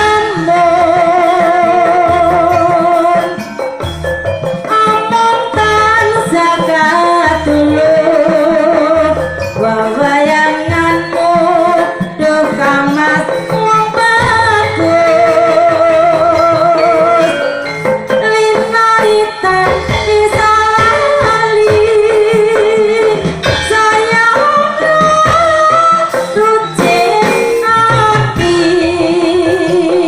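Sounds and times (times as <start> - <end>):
metallophones: 0.0 - 30.0.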